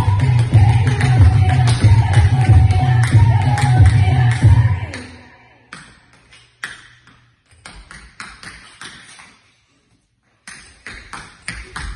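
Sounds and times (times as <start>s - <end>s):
dance shoes tapping on floor: 0.0s - 5.0s, 5.7s - 9.5s, 10.2s - 11.9s.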